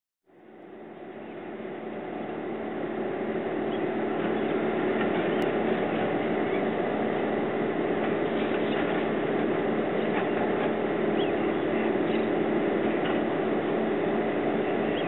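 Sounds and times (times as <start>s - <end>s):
machinery drone with low tones: 0.6s - 15.0s.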